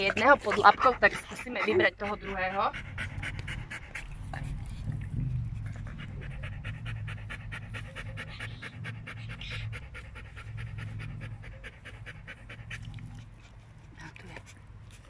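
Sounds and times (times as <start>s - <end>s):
steady low rumble: 0.0s - 14.6s
dog panting rapidly: 0.0s - 15.0s.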